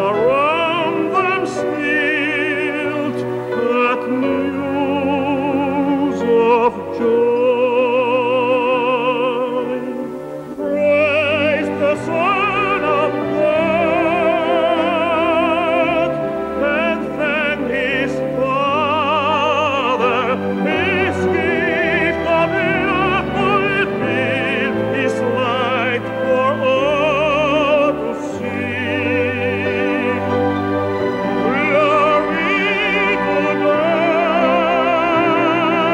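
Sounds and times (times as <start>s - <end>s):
operatic solo singing: 0.0s - 35.9s
orchestral accompaniment: 0.0s - 35.9s.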